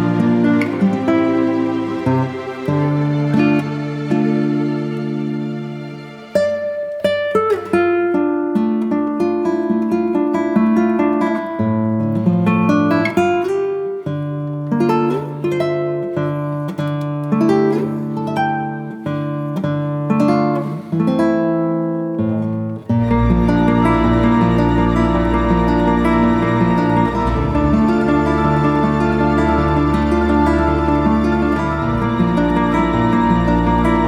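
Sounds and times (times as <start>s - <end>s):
acoustic guitar melody: 0.0s - 34.0s.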